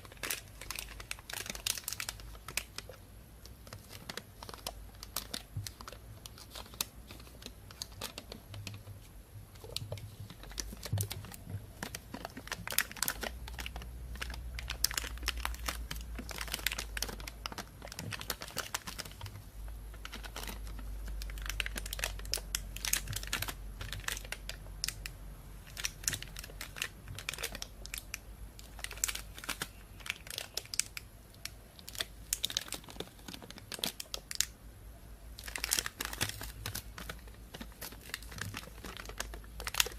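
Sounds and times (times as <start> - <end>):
plastic bag crinkling: 0.0 - 34.5, 35.4 - 39.9.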